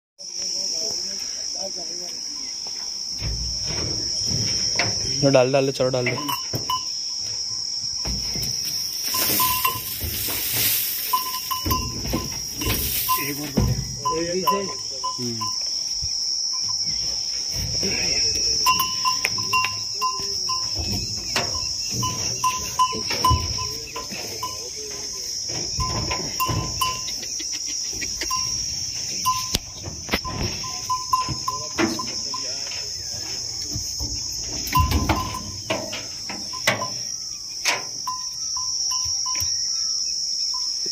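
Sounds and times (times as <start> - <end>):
insects chirring: 0.2 - 40.9
cattle hooves knocking on truck bed: 3.2 - 15.6, 16.7 - 27.2, 27.9 - 38.2.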